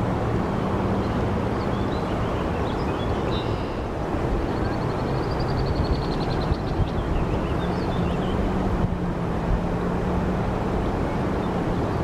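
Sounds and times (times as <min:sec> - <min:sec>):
steady outdoor rush of noise: 0:00.0 - 0:12.0.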